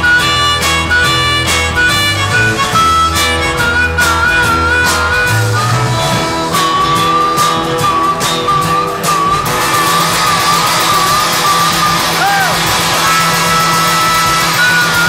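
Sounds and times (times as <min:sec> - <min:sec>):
guitar and bass riff: 0:00.0 - 0:15.0
harmonica long wavering notes: 0:00.0 - 0:15.0
steady drums: 0:00.0 - 0:15.0.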